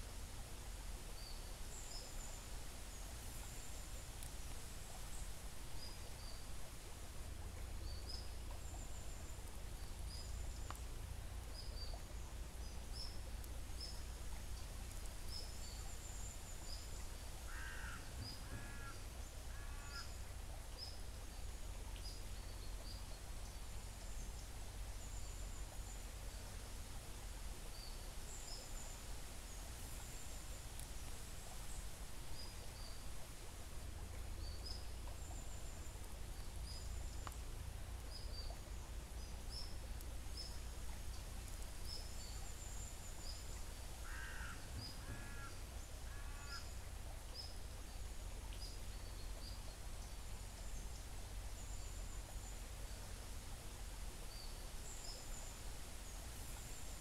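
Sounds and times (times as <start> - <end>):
creek water flowing: 0.0 - 57.0
small birds chirping: 1.1 - 53.3.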